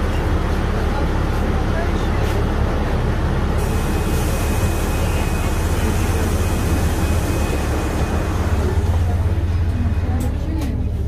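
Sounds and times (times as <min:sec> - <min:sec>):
bus engine rumble: 0:00.0 - 0:11.0
road and cabin noise: 0:00.0 - 0:11.0.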